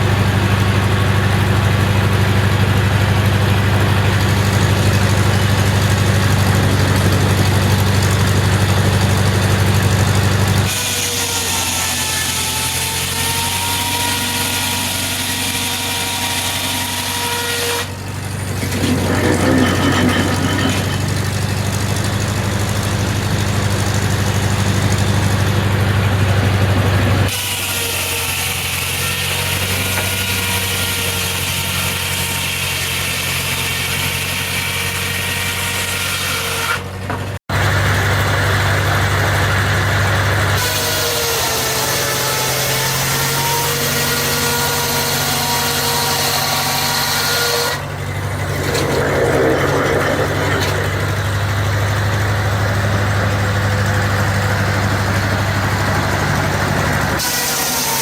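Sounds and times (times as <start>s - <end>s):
sawmill machine hum: 0.0s - 58.0s.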